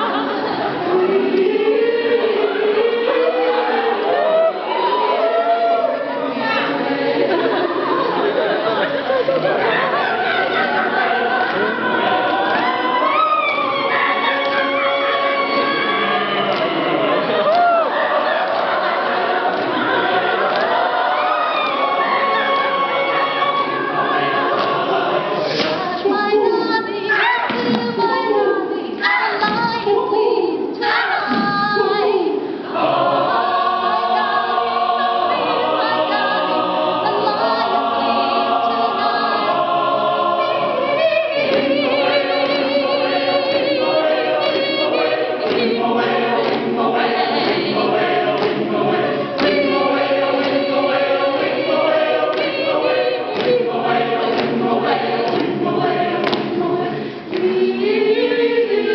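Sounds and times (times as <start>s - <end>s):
choir singing unaccompanied: 0.0s - 58.9s.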